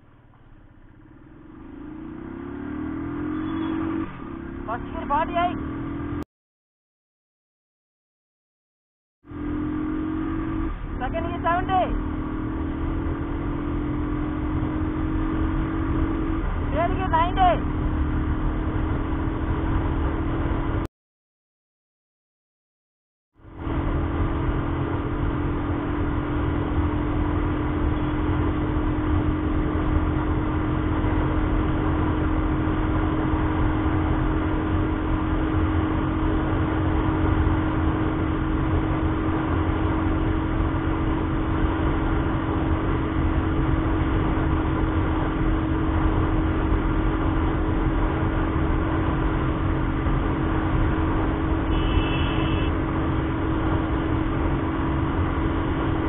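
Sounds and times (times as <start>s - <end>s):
motorcycle engine running hard: 0.0s - 6.2s, 9.2s - 20.8s, 23.4s - 56.0s
wind and road noise: 0.0s - 6.2s, 9.2s - 20.9s, 23.4s - 56.0s.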